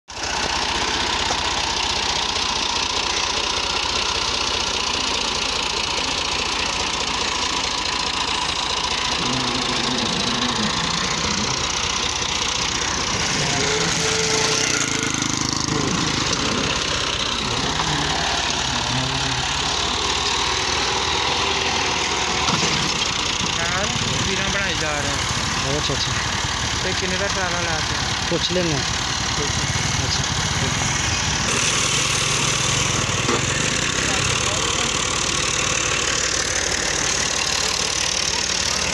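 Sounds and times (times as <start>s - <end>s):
tractor diesel engine knocking: 0.1s - 38.9s.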